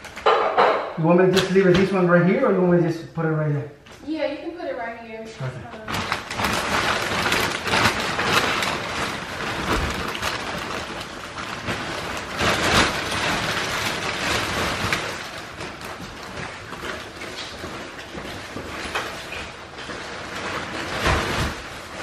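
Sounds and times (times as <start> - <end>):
plastic wrapping crinkling: 0.0 - 2.8, 4.0 - 22.0.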